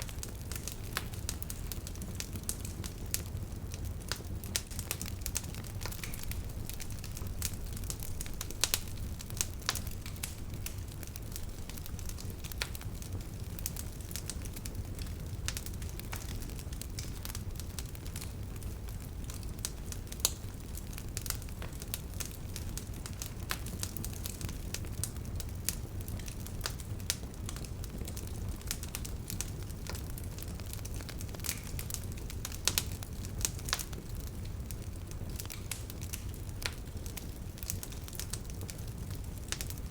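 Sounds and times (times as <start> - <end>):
wood bonfire crackling: 0.0 - 39.9.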